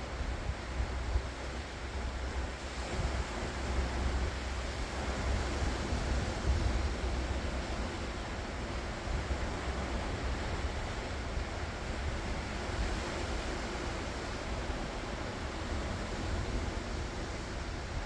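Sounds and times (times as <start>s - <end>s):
ocean waves washing ashore: 0.1s - 18.0s.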